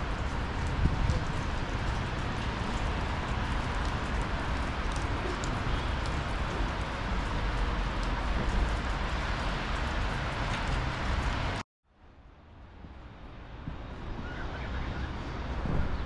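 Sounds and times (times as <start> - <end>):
outdoor rumble and hiss: 0.0 - 16.0.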